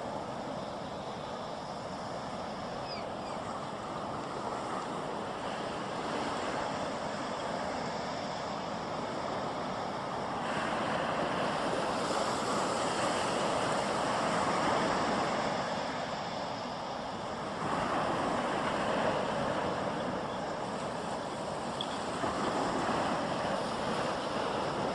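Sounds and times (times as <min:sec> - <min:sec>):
waves breaking: 0:00.0 - 0:24.9.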